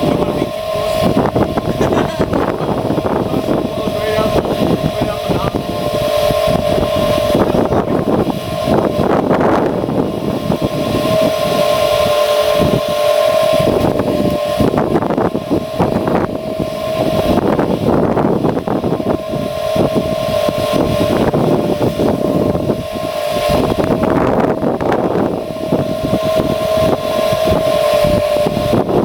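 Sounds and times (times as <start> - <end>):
high whine: 0.0 - 29.0
truck engine running: 0.0 - 29.0
uneven rushing noise: 0.0 - 29.0.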